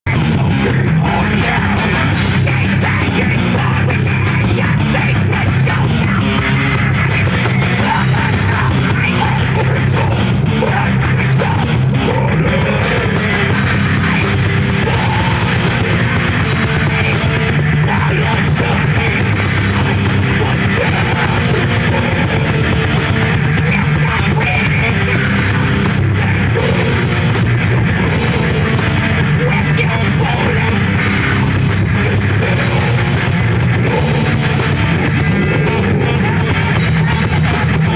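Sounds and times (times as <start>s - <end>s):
heavy metal band playing live: 0.0s - 37.9s.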